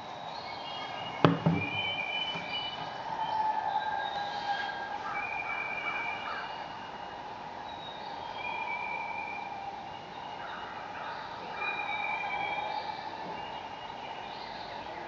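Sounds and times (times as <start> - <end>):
birds whistling: 0.0 - 15.0
continuous hiss: 0.0 - 15.0.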